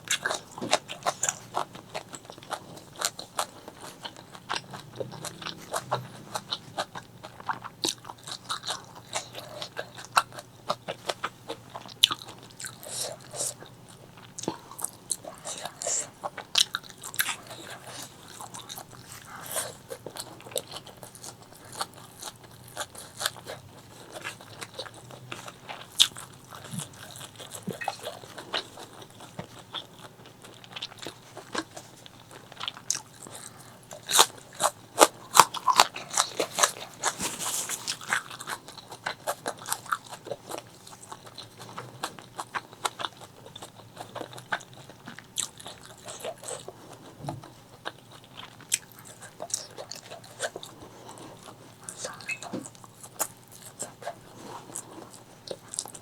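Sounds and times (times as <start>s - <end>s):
close chewing and biting: 0.0s - 56.0s.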